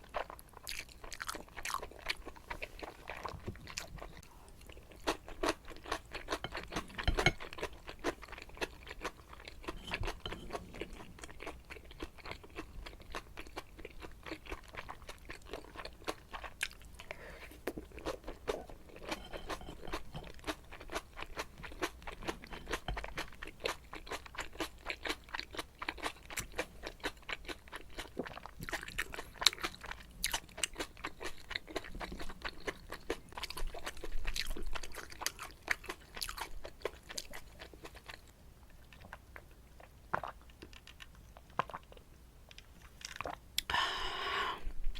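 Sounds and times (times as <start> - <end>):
chewing noodles with mouth clicks: 0.0 - 43.4.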